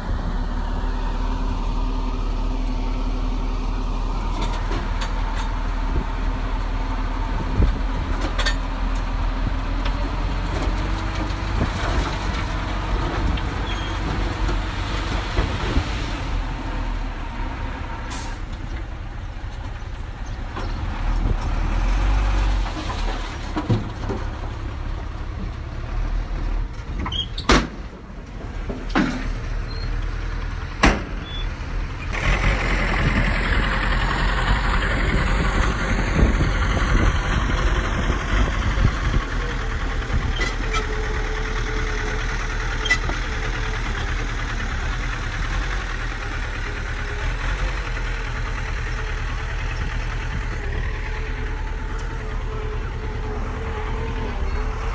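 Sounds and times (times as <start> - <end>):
heavy machinery diesel engine running: 0.0 - 27.2, 27.9 - 54.9.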